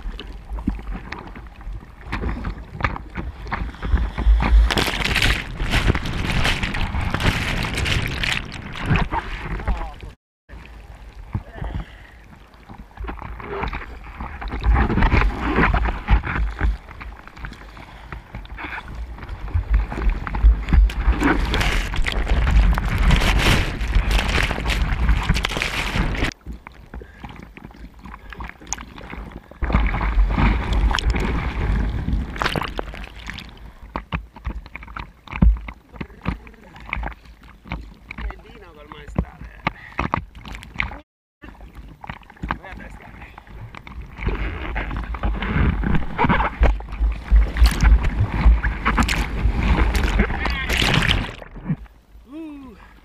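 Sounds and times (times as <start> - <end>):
choppy water slapping: 0.0 - 53.0.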